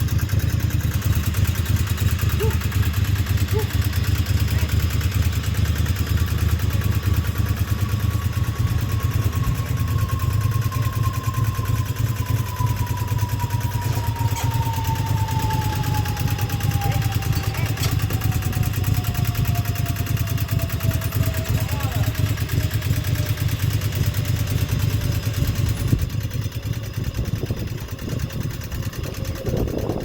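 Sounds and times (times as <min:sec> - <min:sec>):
lawnmower engine running: 0:00.0 - 0:30.0.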